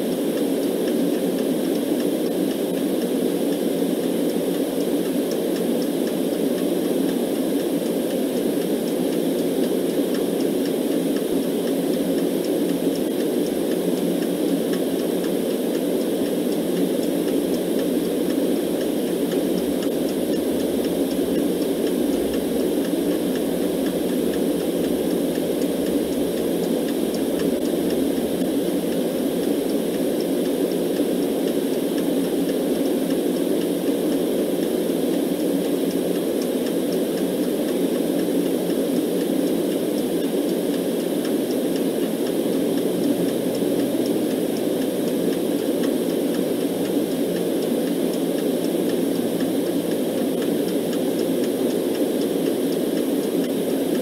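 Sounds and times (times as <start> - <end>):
clock ticking faintly: 0.0 - 54.0
deep white noise: 0.0 - 54.0.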